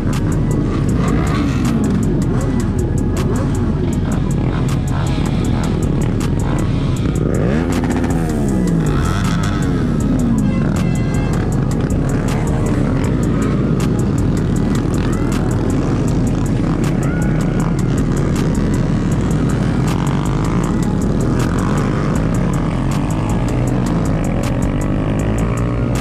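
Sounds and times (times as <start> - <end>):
background music with beat: 0.0 - 26.0
motorcycle engines revving: 0.0 - 26.0.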